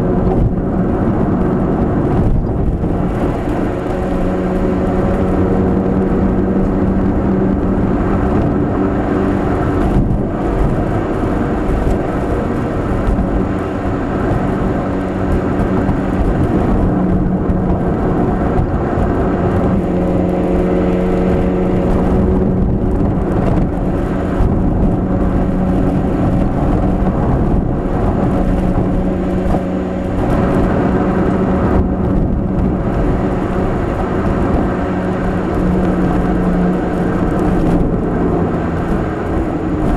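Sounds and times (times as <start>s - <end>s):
car engine droning: 0.0s - 39.9s
road and tyre noise: 0.0s - 39.9s.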